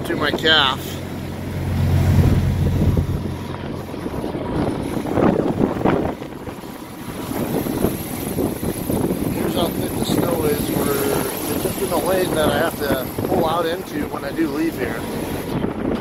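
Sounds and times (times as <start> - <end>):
heavy low rumble: 0.0 - 16.0
wind buffeting microphone: 0.0 - 16.0.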